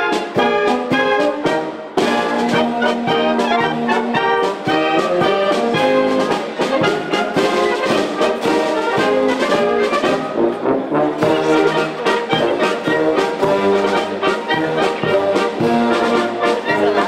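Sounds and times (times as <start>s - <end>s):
brass ensemble playing: 0.0s - 17.0s.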